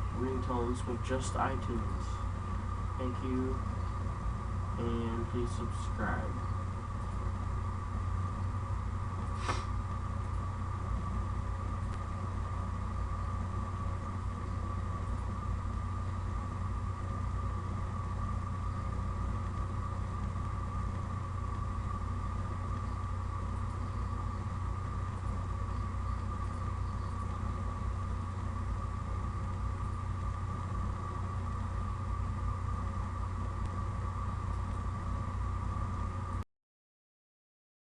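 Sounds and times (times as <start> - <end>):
steady low hum: 0.0 - 36.4
thin whine: 0.0 - 36.4.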